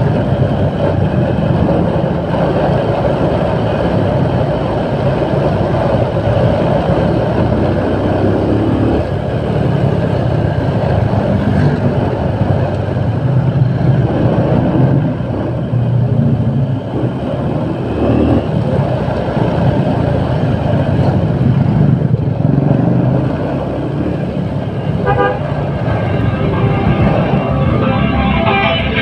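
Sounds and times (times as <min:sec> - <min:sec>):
motorcycle engine rumbling: 0:00.0 - 0:29.0
surrounding traffic: 0:00.0 - 0:29.0.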